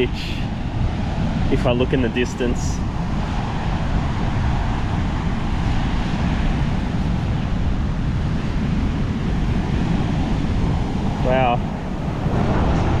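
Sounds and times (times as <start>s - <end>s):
ocean surf on beach: 0.0s - 13.0s
wind rumbling on microphone: 0.0s - 13.0s.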